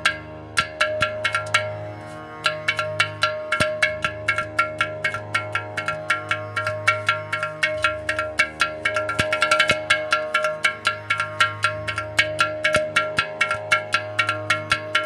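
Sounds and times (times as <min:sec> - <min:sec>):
clay pot drum strokes: 0:00.0 - 0:15.0.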